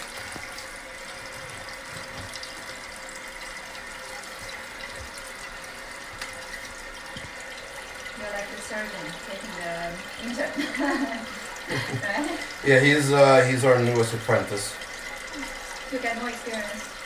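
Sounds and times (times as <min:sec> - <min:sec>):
water hissing through toilet valve: 0:00.0 - 0:17.0
water spraying into tank: 0:00.0 - 0:17.0.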